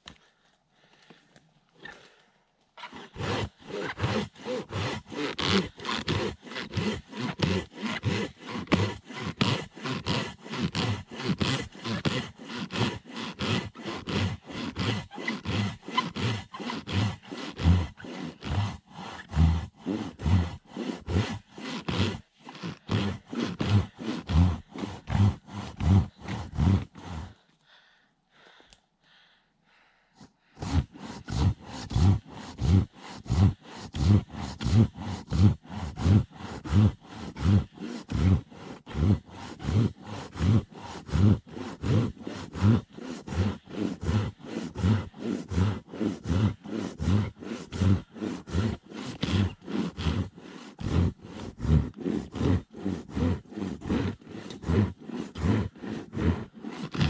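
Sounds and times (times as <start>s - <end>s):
hand saw cutting wood: 2.8s - 27.6s, 30.5s - 57.0s.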